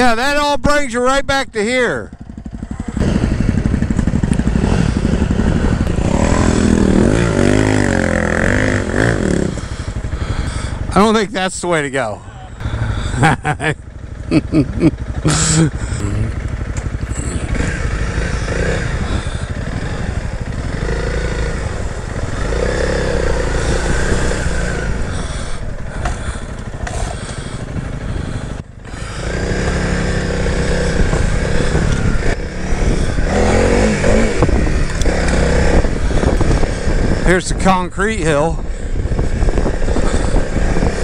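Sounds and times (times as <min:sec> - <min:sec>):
motorcycle engine revving: 0:01.8 - 0:41.0.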